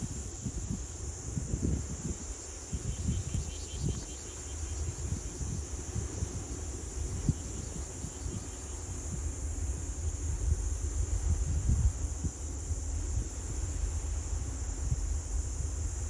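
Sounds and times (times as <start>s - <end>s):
faint insect chirps: 0.0s - 16.0s
steady outdoor hiss: 0.0s - 16.0s
wind buffeting microphone: 0.0s - 16.0s.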